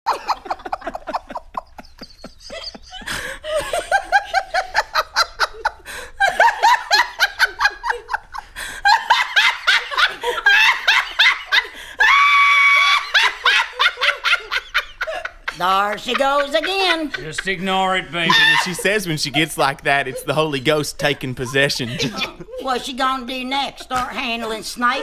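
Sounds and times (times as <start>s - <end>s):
woman laughing: 0.1s - 17.4s, 18.2s - 20.8s, 21.4s - 25.0s.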